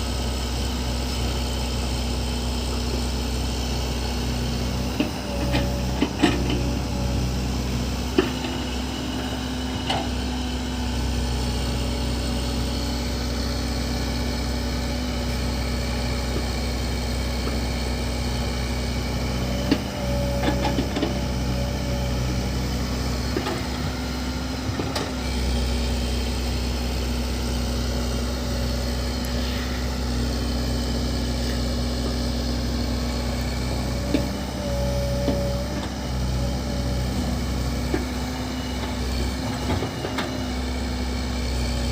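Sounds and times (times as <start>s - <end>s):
backhoe diesel engine running: 0.0s - 41.9s.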